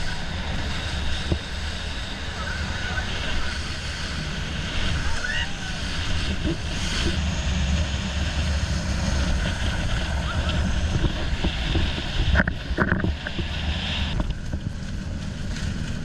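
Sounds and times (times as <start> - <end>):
motorboat engine rumble: 0.0 - 16.0
wind buffeting microphone: 0.0 - 16.0.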